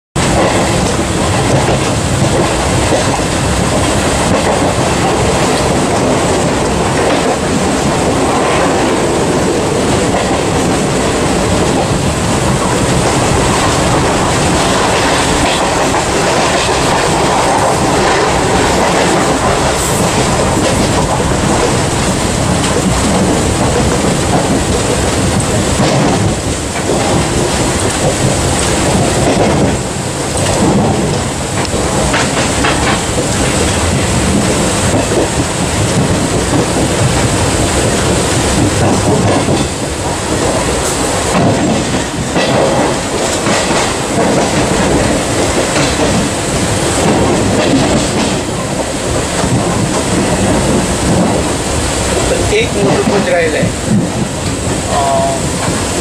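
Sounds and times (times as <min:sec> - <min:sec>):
train wheels rumbling on rails: 0:00.2 - 0:56.0.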